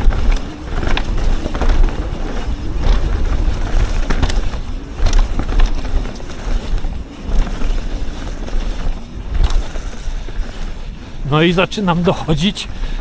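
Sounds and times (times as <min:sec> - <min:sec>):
bike knocks and rattles: 0:00.0 - 0:13.0
wind rumbling on microphone: 0:00.0 - 0:13.0.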